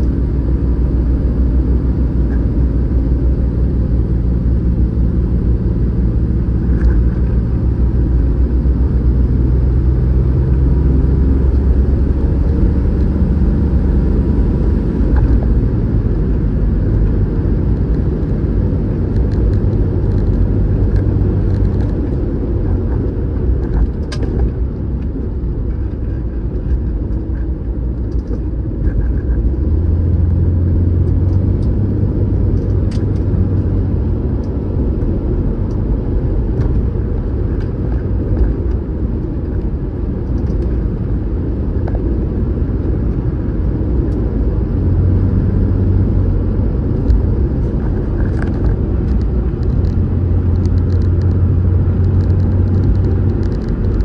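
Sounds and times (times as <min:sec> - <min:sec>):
car engine drone: 0:00.0 - 0:54.0
road rumble: 0:00.0 - 0:54.0.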